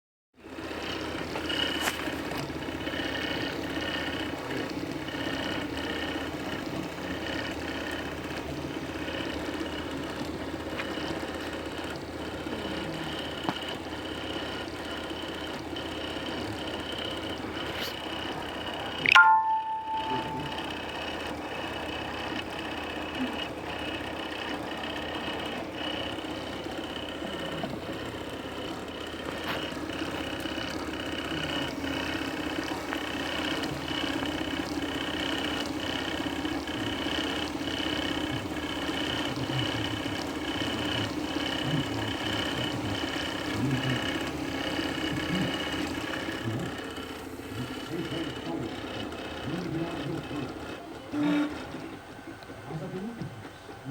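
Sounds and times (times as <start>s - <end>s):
stepper motors whining: 0.4s - 53.9s.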